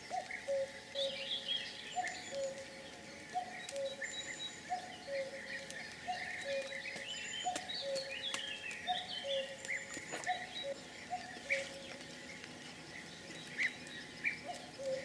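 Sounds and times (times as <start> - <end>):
bird chirps and twitters: 0.0 - 15.0.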